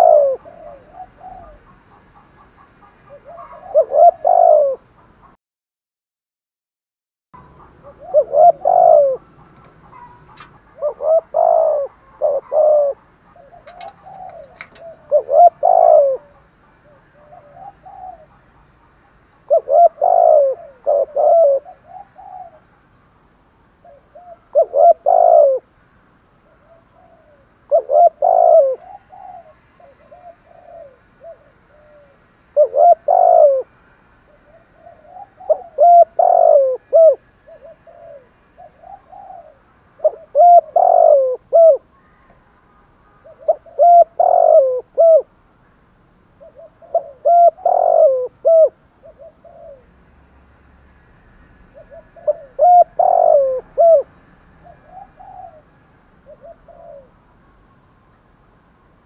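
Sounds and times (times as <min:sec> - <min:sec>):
dove cooing: 0:00.0 - 0:05.3, 0:07.4 - 0:22.8, 0:23.8 - 0:25.7, 0:26.4 - 0:42.3, 0:43.2 - 0:45.3, 0:46.4 - 0:50.0, 0:51.7 - 0:57.2.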